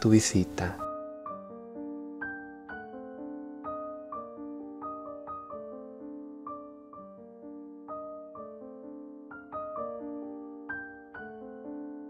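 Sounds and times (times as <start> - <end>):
soft slow piano music: 0.0 - 12.0.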